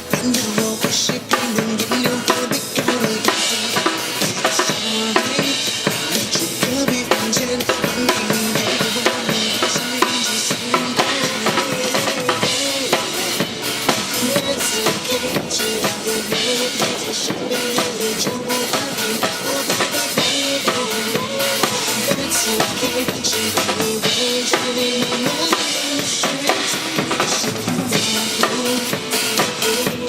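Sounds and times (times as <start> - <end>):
drum kit beat: 0.0 - 30.0
live band music: 0.0 - 30.0.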